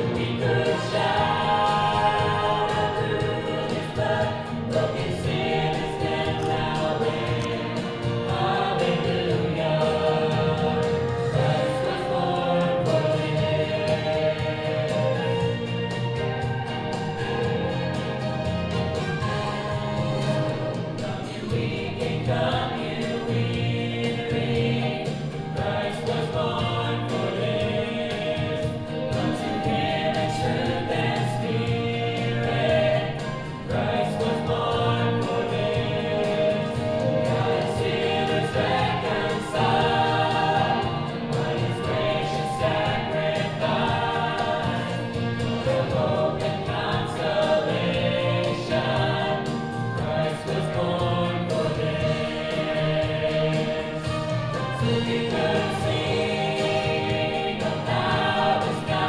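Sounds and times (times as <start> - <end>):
church choir singing: 0.0 - 59.0
instrumental accompaniment: 0.0 - 59.0.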